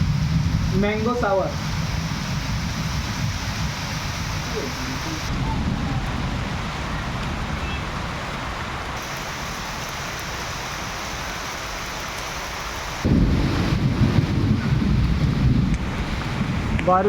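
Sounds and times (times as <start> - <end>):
wind rumble on microphone: 0.0 - 11.4, 13.0 - 17.0
rain falling: 0.0 - 17.0.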